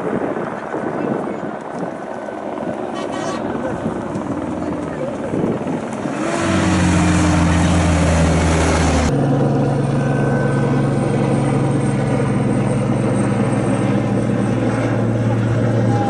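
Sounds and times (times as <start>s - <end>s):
heavy engines running: 1.6s - 16.0s.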